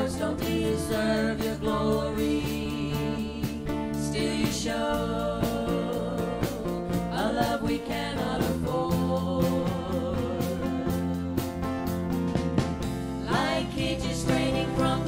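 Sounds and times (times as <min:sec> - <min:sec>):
singers in unison: 0:00.0 - 0:11.5, 0:13.2 - 0:15.0
drum kit beat: 0:00.0 - 0:15.0
electric bass: 0:00.0 - 0:15.0
strummed acoustic guitars: 0:00.0 - 0:15.0.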